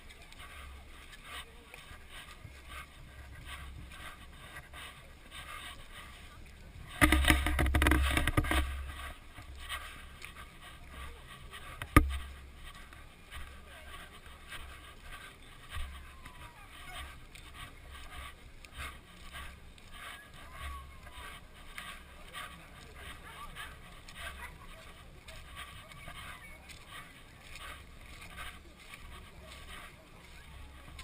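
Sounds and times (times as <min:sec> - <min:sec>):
faint crowd chatter: 0:00.0 - 0:31.0.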